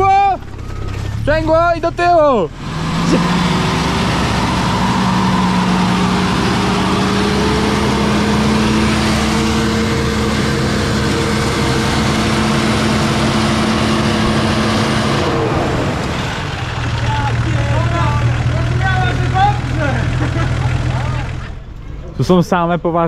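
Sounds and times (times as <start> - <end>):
vehicle engine reversing under load: 0.0 - 21.8.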